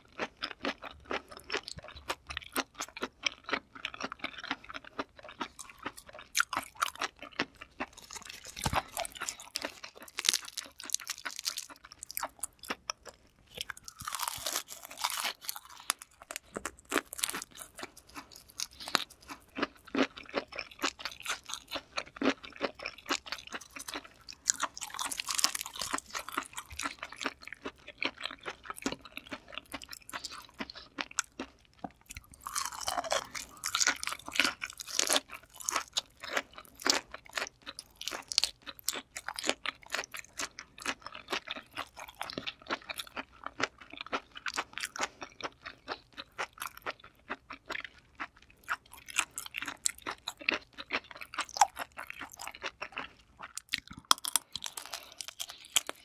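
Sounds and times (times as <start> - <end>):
chewing and crunching prawn: 0.0 - 56.0.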